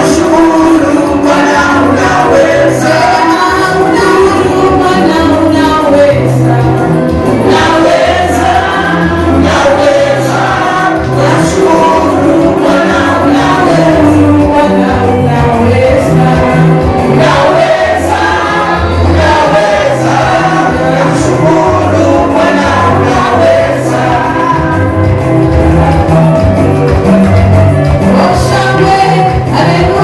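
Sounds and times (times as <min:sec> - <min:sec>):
band with bass line: 0:00.0 - 0:30.0
gospel choir singing: 0:00.0 - 0:30.0.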